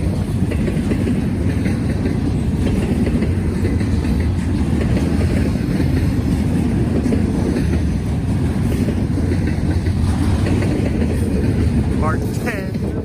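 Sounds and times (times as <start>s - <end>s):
freight train wheels rumbling: 0.0s - 13.0s
wind buffeting microphone: 0.0s - 13.0s.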